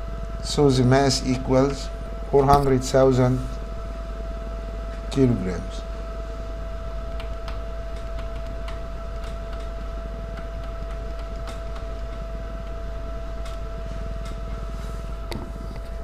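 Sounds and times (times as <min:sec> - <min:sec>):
electrical hum: 0:00.0 - 0:16.0
thin constant whine: 0:00.0 - 0:16.0.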